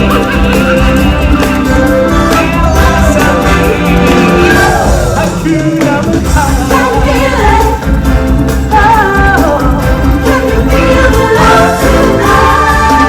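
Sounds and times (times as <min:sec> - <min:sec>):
steady low beat: 0:00.0 - 0:12.5
song with singing and instruments: 0:00.0 - 0:13.0.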